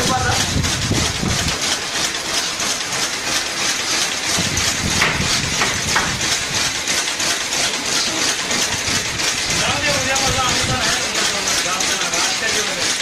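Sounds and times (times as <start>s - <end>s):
coding machine clattering: 0.0s - 13.0s.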